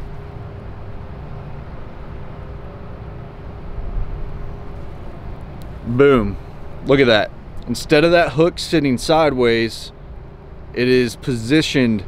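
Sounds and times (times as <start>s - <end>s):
low rumbling outdoor background noise: 0.0s - 12.0s.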